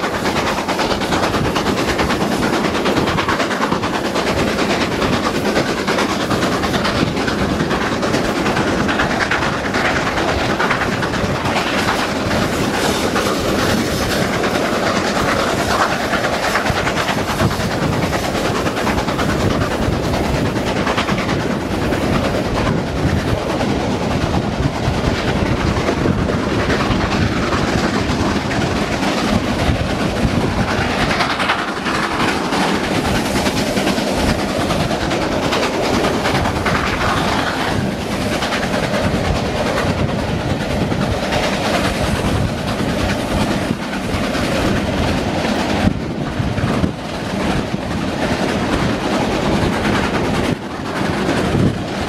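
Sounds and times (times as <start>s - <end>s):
steam locomotive exhaust beats: 0.0s - 52.0s
train wheels clattering on rail joints: 0.0s - 52.0s.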